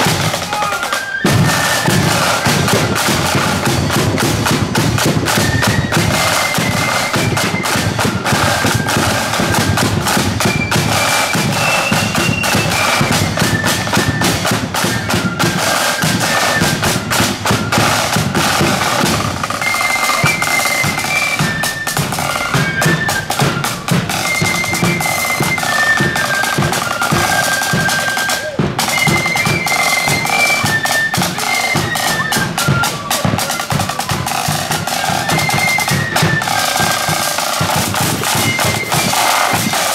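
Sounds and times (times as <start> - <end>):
flute melody: 0.0 - 39.9
side drum: 0.0 - 39.9.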